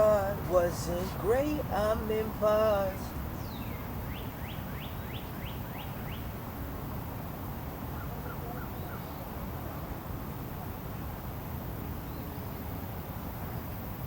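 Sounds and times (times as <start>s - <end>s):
low outdoor background noise: 0.0s - 14.0s.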